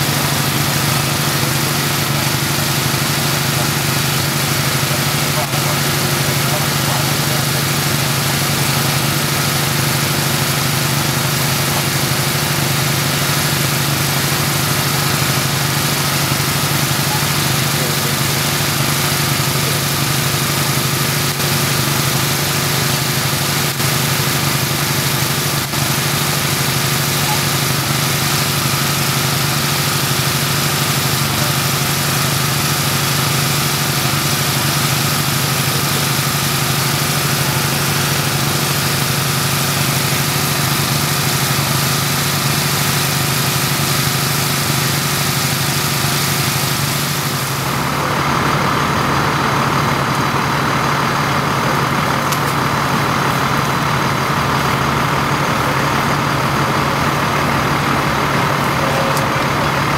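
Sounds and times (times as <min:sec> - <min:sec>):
engine droning steadily: 0:00.0 - 0:59.9.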